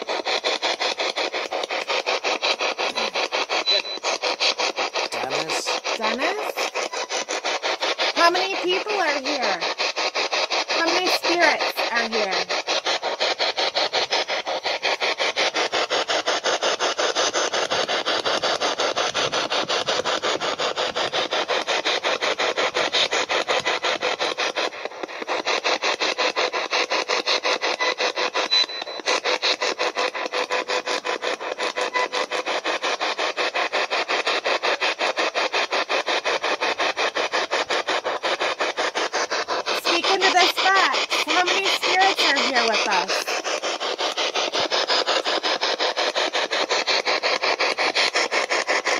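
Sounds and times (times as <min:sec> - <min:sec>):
choppy pulsing radio static: 0:00.0 - 0:48.9.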